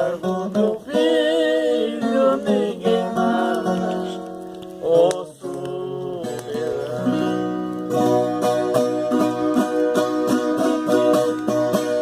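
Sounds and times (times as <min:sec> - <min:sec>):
plucked guitar strings: 0:00.0 - 0:12.0.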